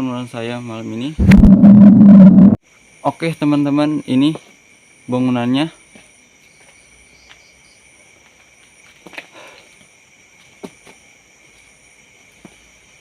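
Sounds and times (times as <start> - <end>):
night insects chirring: 0.0 - 1.2, 2.6 - 13.0.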